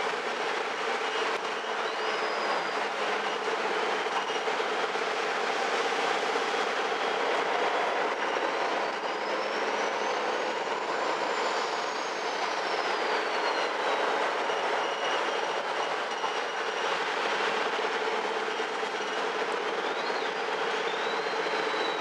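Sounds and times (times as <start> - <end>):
bus running noise from inside: 0.0 - 22.0.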